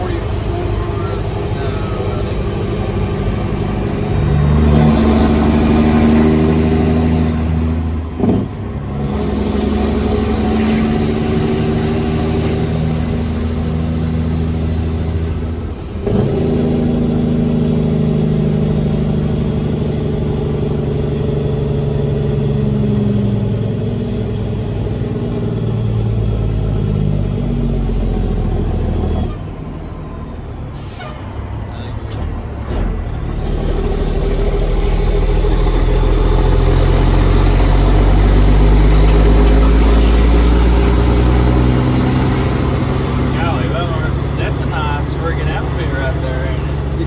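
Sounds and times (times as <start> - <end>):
truck diesel engine under load: 0.0 - 47.0.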